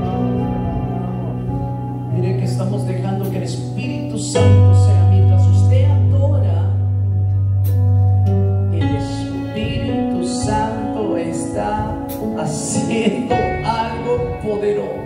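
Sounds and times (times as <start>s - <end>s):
worship music: 0.0s - 15.0s.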